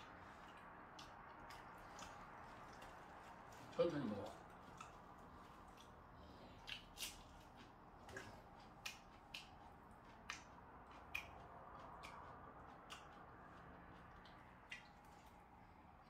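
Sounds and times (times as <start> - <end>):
chewing smacks and clicks: 0.1 - 16.0.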